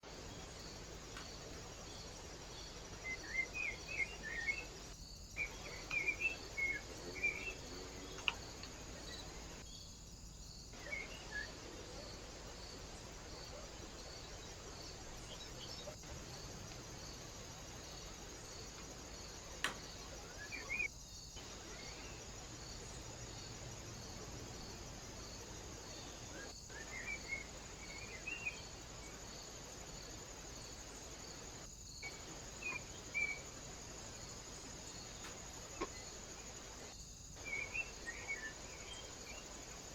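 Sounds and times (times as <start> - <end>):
cricket chirping: 0.0 - 39.9
small birds chirping: 0.0 - 39.9
steady hiss: 0.0 - 39.9.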